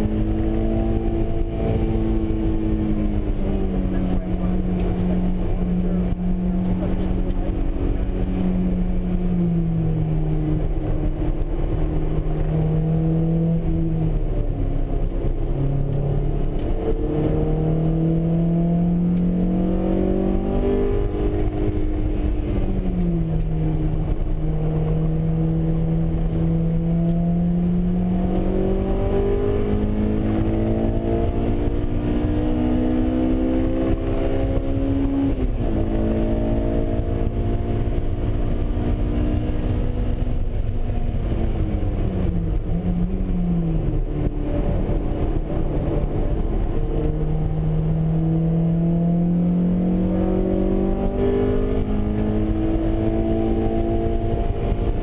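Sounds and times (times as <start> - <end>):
car engine revving at speed: 0.0 - 55.0.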